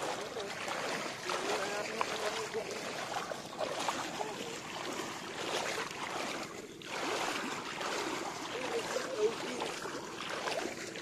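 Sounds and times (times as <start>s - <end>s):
footsteps wading through water: 0.0s - 11.0s
water sloshing and splashing: 0.0s - 11.0s.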